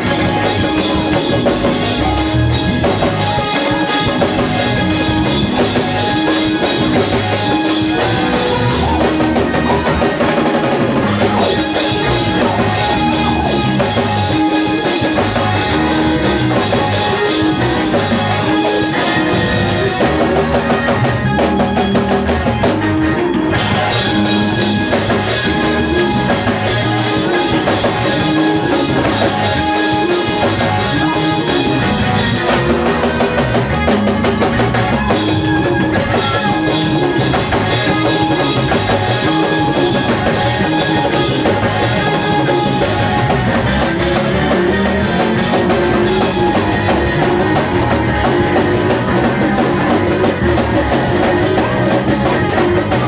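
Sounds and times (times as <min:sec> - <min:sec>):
bass line: 0:00.0 - 0:53.0
drum kit beat: 0:00.0 - 0:53.0
guitar: 0:00.0 - 0:53.0.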